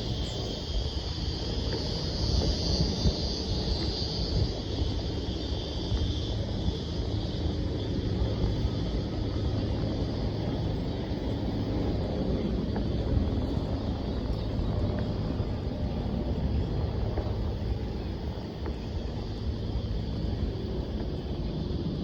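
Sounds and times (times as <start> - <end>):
constant low hum: 0.0 - 22.0.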